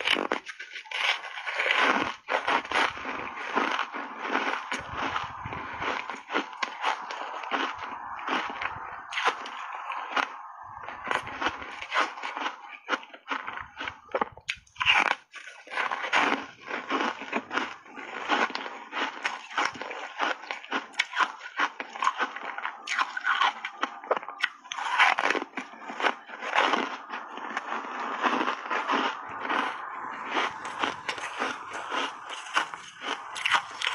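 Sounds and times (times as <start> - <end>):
crunchy ice chewing: 0.0 - 33.9.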